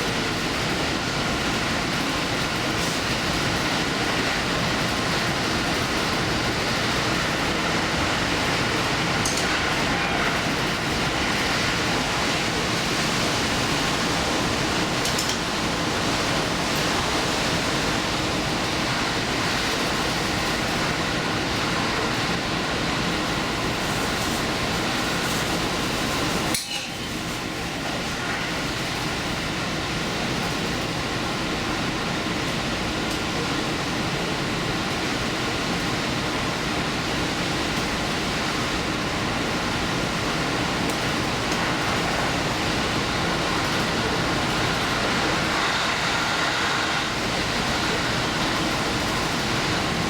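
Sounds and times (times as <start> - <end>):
diesel train running: 0.0 - 50.0.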